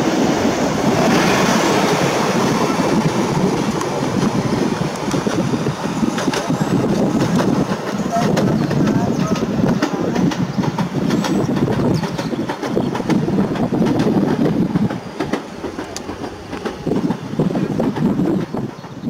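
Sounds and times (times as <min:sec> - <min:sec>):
train rumble: 0:00.0 - 0:19.0
train wheels clicking over rail joints: 0:00.0 - 0:19.0.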